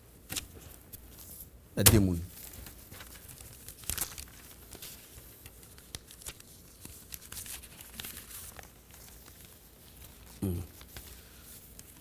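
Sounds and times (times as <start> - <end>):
newspaper pages rustling: 2.0 - 12.0.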